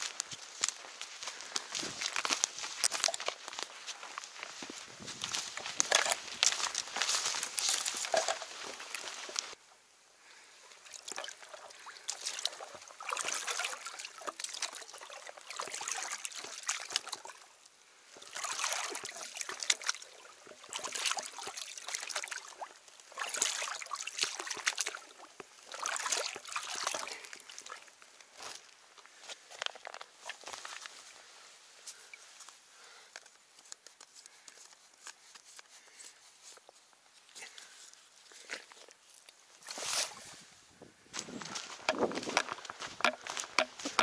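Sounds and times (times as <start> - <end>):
water sloshing and trickling: 0.0 - 9.6, 10.7 - 32.3, 37.5 - 40.4, 41.2 - 44.0.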